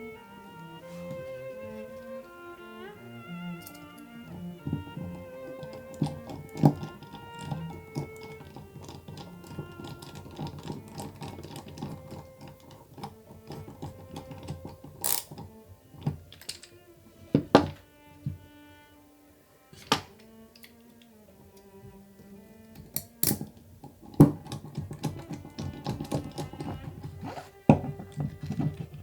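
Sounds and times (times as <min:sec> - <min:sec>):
background music: 0:00.0 - 0:29.0
small hard parts clicking: 0:03.4 - 0:18.5, 0:19.8 - 0:29.0.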